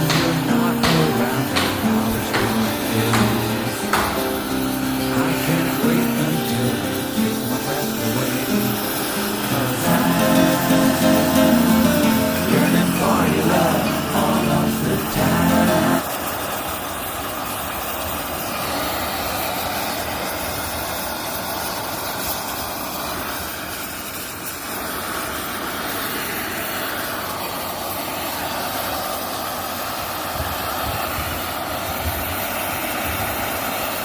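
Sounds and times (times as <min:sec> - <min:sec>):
gas torch hissing: 0:00.0 - 0:34.0.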